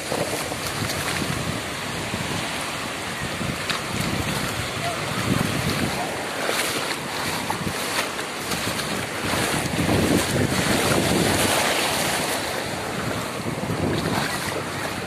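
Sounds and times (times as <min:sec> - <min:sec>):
shallow surf washing: 0:00.0 - 0:15.0
splashing footsteps in water: 0:00.0 - 0:15.0
wind buffeting microphone: 0:00.0 - 0:15.0.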